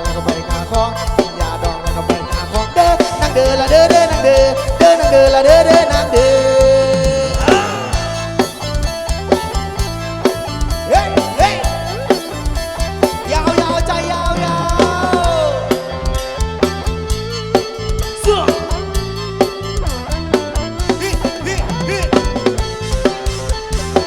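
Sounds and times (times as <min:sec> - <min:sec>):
drum kit beat: 0:00.0 - 0:24.0
lead melody with bending notes: 0:00.0 - 0:24.0
live band playing dance music: 0:00.0 - 0:24.0.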